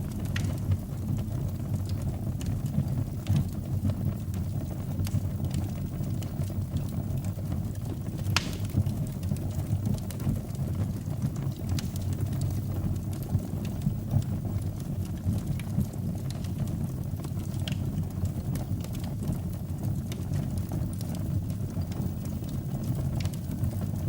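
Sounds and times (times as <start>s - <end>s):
fire crackles and pops: 0.0s - 24.0s
fire flames rumbling: 0.0s - 24.0s.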